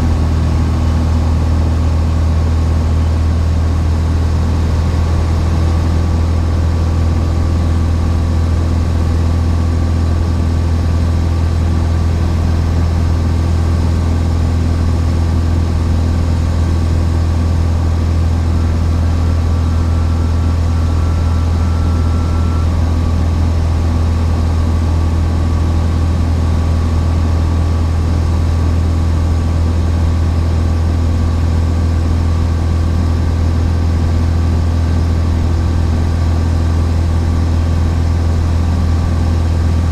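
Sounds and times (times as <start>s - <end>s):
plane engine droning in cabin: 0.0s - 39.9s.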